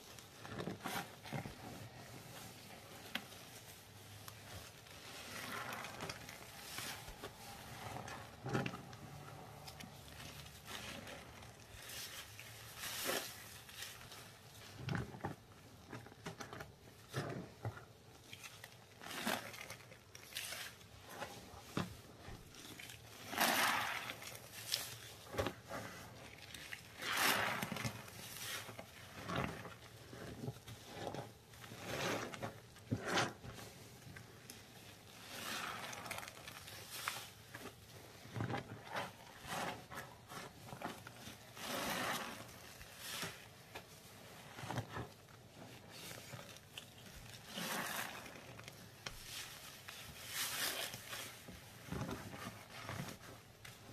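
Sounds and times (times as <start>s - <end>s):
wet squishing of sponges: 0.0s - 53.9s.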